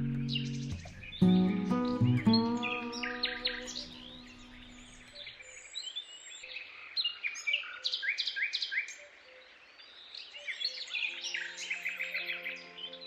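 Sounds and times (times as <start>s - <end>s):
birds singing and chirping: 0.0s - 13.0s
faint outdoor background noise: 0.0s - 13.0s.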